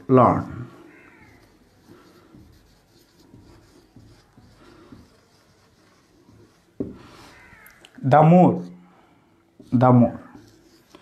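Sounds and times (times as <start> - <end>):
marker pen scratching on whiteboard: 0.0 - 8.8, 9.5 - 11.0.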